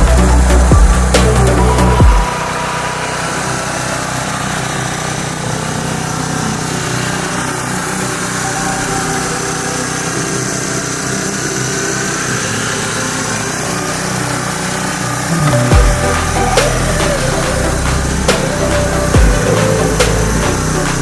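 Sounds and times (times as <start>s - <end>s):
small motor running: 0.0s - 21.0s.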